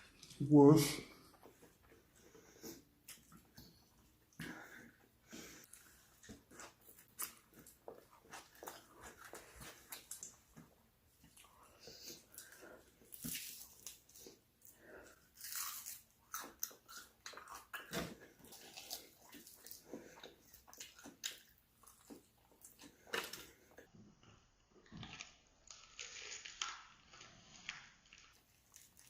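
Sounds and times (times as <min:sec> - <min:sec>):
person chewing crunchy food: 0:01.4 - 0:23.9, 0:24.8 - 0:29.0.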